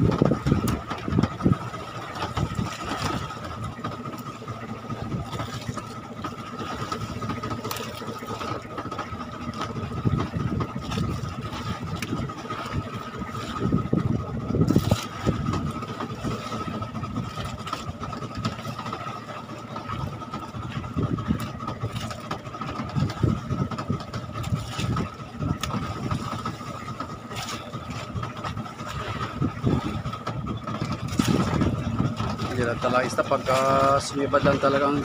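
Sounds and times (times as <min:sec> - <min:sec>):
boat engine idling: 0:00.0 - 0:35.0.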